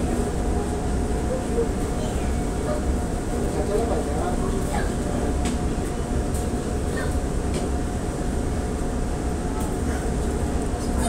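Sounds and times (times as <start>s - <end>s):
standing train rumble and hum: 0.0s - 11.0s.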